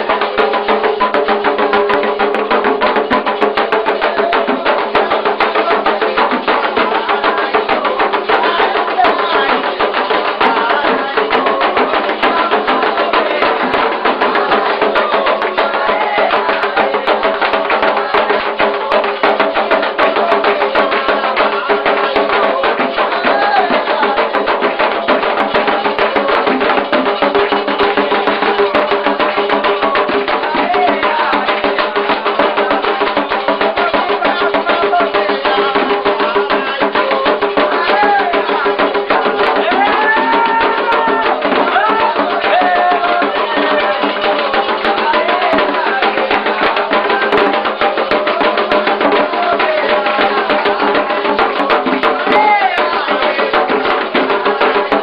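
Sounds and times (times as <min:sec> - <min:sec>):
hand drums playing a dense rhythm: 0:00.0 - 0:55.0
voices singing: 0:00.0 - 0:55.0.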